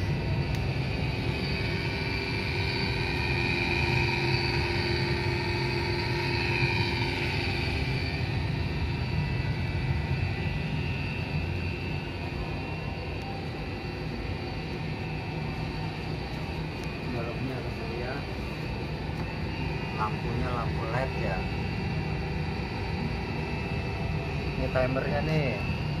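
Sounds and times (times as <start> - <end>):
faint thin whining tones: 0.0 - 26.0
oven burner and fan noise: 0.0 - 26.0.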